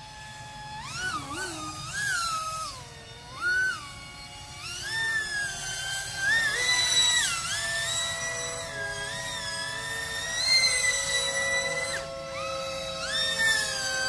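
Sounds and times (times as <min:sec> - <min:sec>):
electric motor propeller whining: 0:00.0 - 0:14.0.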